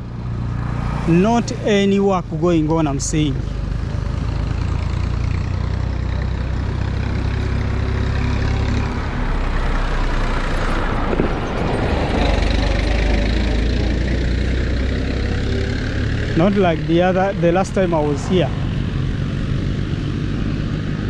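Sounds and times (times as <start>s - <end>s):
road noise: 0.0s - 21.0s
vehicle engine humming: 0.0s - 21.0s.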